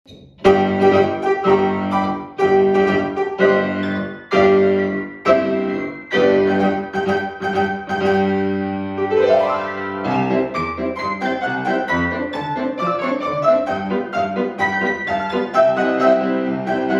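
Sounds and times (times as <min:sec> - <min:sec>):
piano chords ringing: 0:00.4 - 0:16.9.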